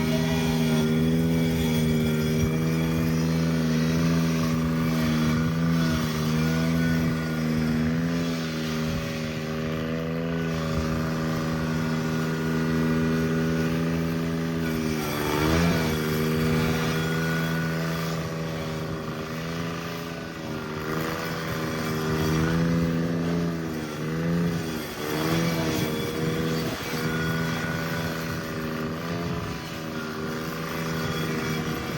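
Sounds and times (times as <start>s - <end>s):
garden tractor engine running: 0.0s - 31.9s.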